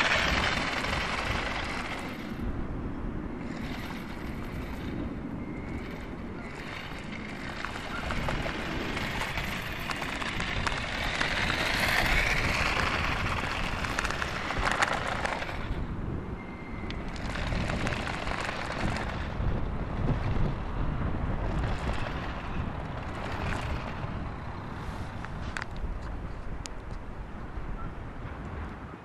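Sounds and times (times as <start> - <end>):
plastic wheels rattling over tarmac: 0.0 - 2.7, 3.4 - 27.1
small electric motor whining: 0.0 - 26.2
wind on microphone: 0.0 - 29.0.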